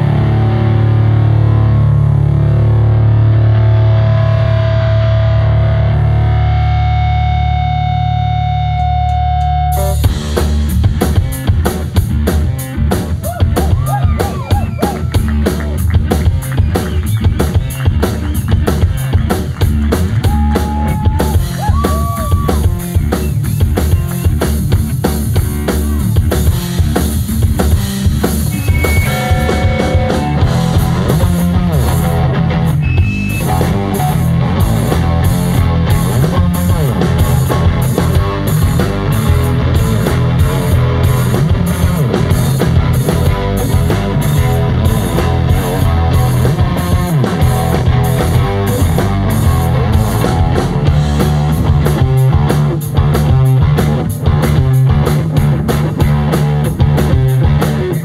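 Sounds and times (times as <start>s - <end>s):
electric guitar: 0.0s - 58.0s
drum kit beat: 9.1s - 58.0s.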